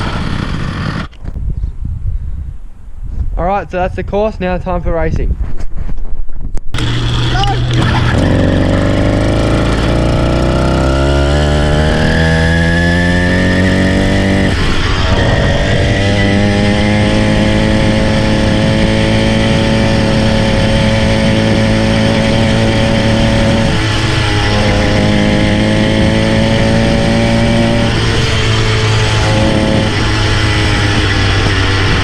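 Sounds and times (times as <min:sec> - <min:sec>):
small engine running hard: 0:00.0 - 0:01.2, 0:06.8 - 0:32.0
wind rushing over microphone: 0:00.0 - 0:32.0.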